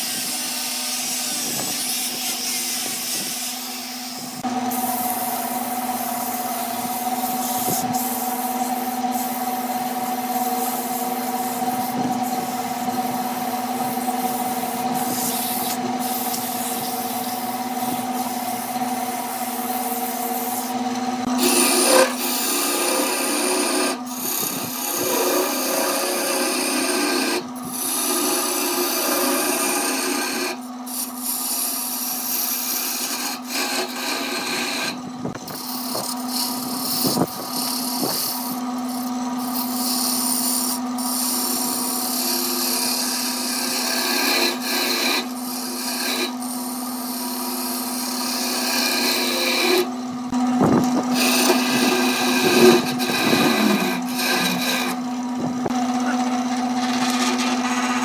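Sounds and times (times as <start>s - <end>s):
chisel scraping spinning wood: 0.0s - 58.0s
lathe motor hum: 0.1s - 58.0s.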